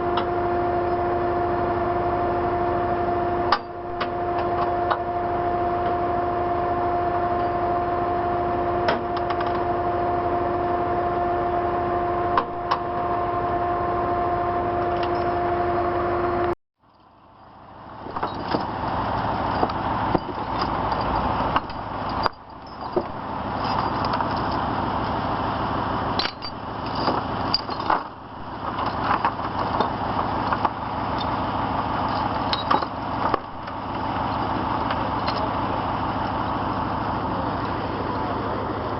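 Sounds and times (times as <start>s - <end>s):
two-tone mechanical hum: 0.0s - 38.9s
vehicle engine and road noise: 0.0s - 38.9s.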